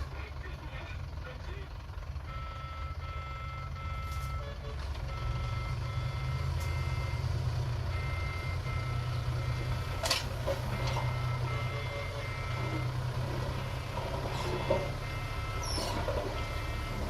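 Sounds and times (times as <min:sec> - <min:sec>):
diesel engine running: 0:00.0 - 0:17.0
reversing alarm beeping: 0:02.2 - 0:17.0.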